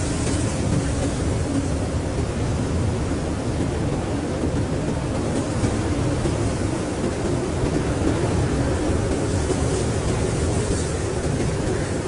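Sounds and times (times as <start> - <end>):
blizzard wind rushing: 0.0 - 12.0.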